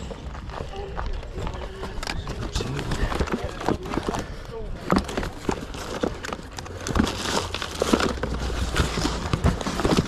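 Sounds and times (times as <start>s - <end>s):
rustling and crinkling handling: 0.0s - 10.0s.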